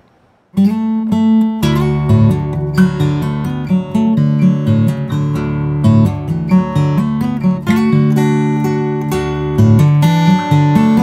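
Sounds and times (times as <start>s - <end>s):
acoustic guitar fingerstyle: 0.0s - 11.0s.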